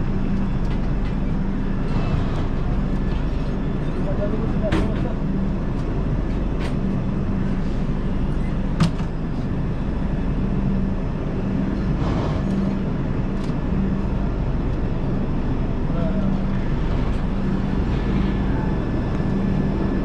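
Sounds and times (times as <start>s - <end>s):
low hum: 0.0s - 20.0s
train coaches rumbling: 0.0s - 20.0s.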